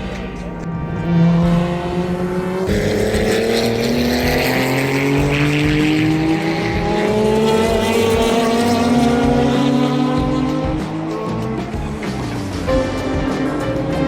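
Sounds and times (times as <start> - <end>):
lower engine note: 0.0 - 14.0
race car engine accelerating: 0.0 - 14.0.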